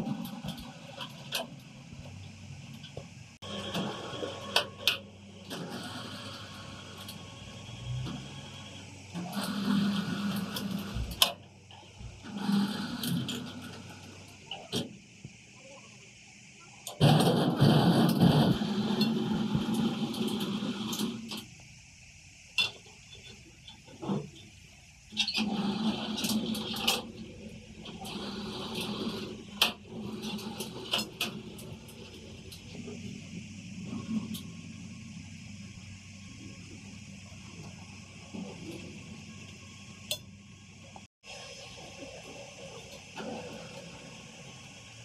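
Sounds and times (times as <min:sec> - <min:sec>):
drilling rig machinery running: 0:00.0 - 0:45.0.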